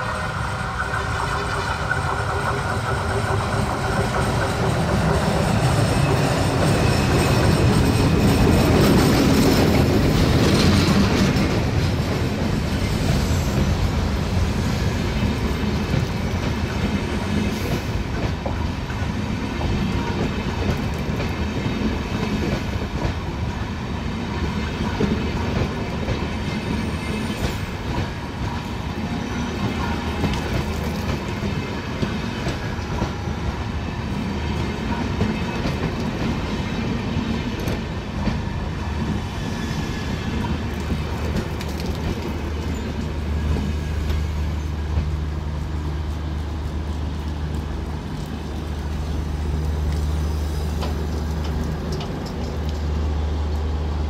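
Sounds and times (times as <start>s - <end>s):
diesel locomotive passing: 0.0s - 54.0s
train wheels on rails: 0.0s - 54.0s.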